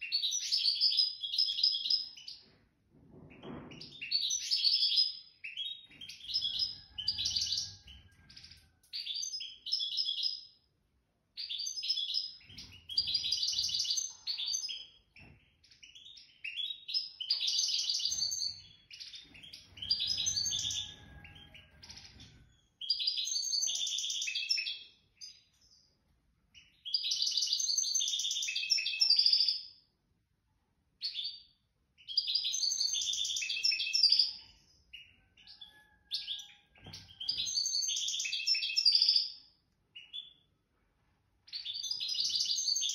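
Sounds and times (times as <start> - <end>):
bird singing high jingling song: 0.0 - 2.4, 3.7 - 10.6, 11.4 - 25.9, 26.6 - 29.8, 31.0 - 40.5, 41.5 - 42.9.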